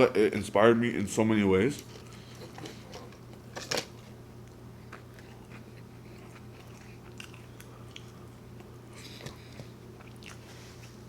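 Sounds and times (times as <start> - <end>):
person chewing food: 1.8 - 11.0.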